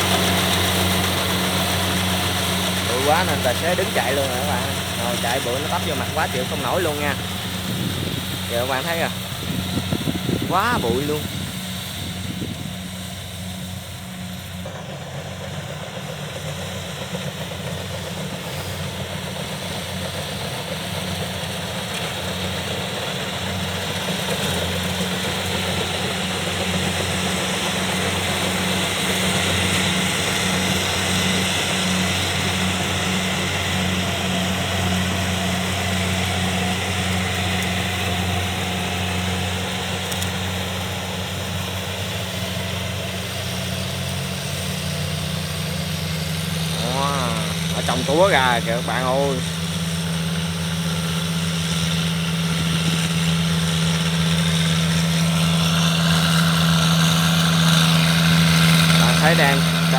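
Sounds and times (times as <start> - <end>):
diesel engine running under load: 0.0 - 59.9
threshing machinery clatter: 0.0 - 59.9.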